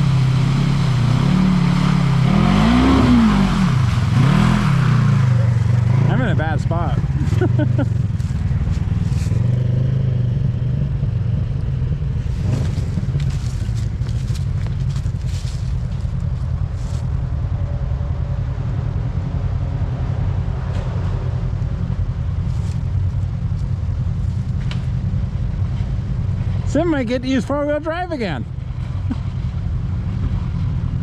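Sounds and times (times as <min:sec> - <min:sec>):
off-road vehicle engine: 0:00.0 - 0:31.0.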